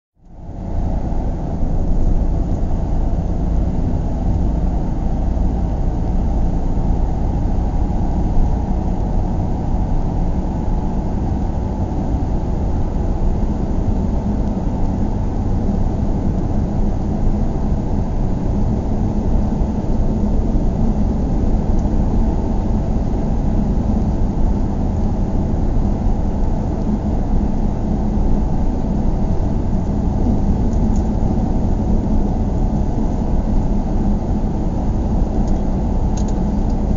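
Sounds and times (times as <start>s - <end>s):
car interior engine and road rumble: 0.2s - 36.9s.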